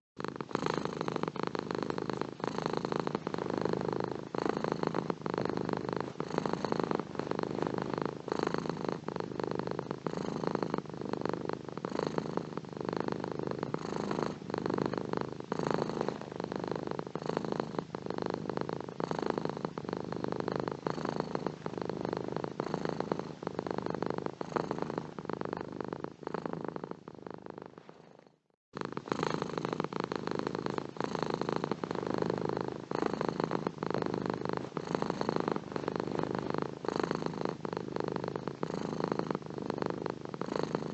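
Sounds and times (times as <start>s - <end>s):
cat purring: 0.1s - 40.9s.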